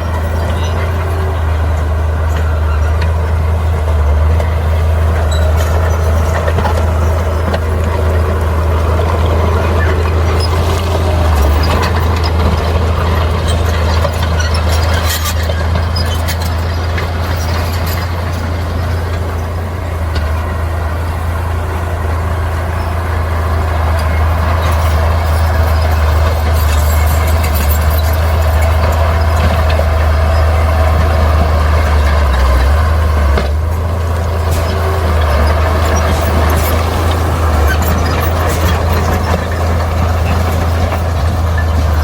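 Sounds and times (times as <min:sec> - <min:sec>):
bulldozer engine droning: 0:00.0 - 0:42.0
track squeaks and clatter: 0:00.0 - 0:42.0.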